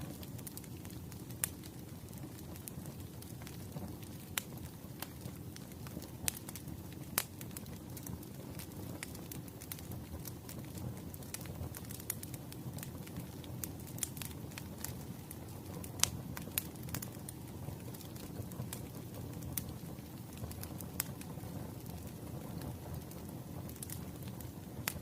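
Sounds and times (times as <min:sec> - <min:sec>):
firewood crackling and popping: 0:00.0 - 0:25.0
low rumble of flames: 0:00.0 - 0:25.0.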